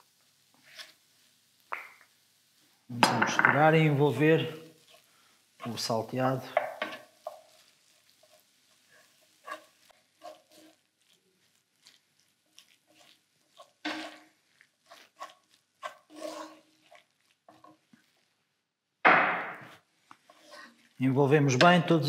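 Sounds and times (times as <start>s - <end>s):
wooden spoon stirring in a pan: 0.0s - 19.0s, 19.6s - 22.0s.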